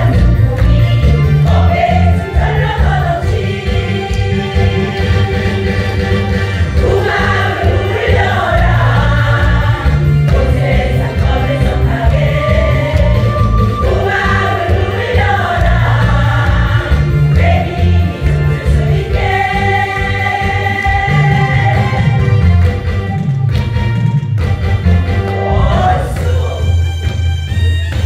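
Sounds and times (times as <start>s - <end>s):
women's choir singing: 0.0s - 6.1s, 6.7s - 22.3s, 25.3s - 26.7s
instrumental accompaniment with bass: 0.0s - 28.0s.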